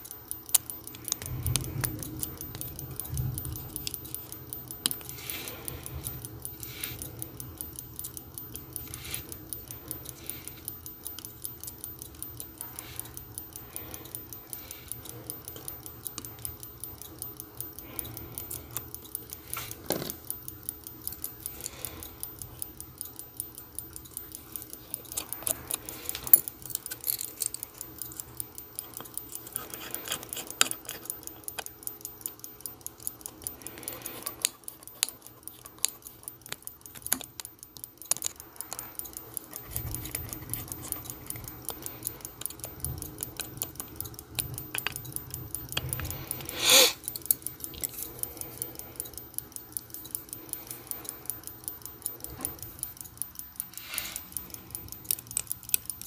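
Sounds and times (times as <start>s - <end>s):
tools clicking against watch: 0.0s - 56.0s
watch ticking fast: 0.0s - 56.0s.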